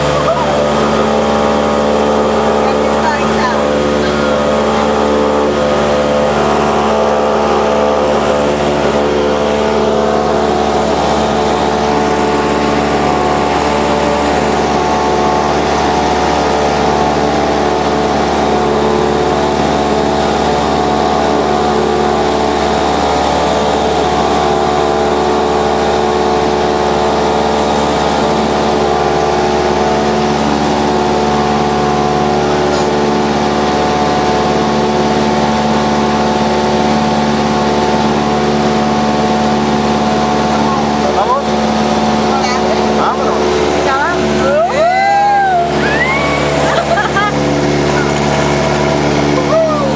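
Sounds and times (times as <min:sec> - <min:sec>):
light aircraft engine and propeller: 0:00.0 - 0:49.9.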